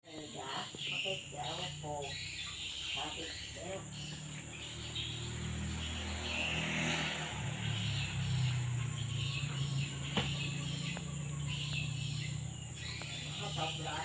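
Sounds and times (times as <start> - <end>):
crickets chirping: 0.1 - 14.0.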